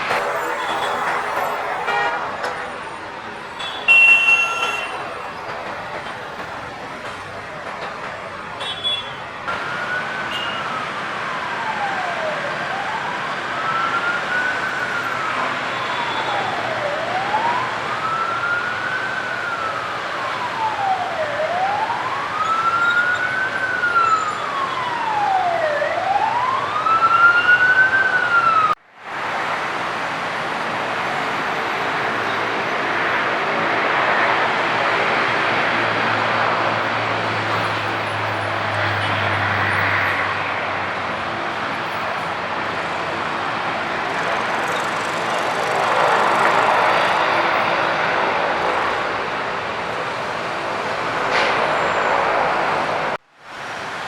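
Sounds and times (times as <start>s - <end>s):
wailing siren: 0.0s - 28.8s, 29.6s - 53.2s.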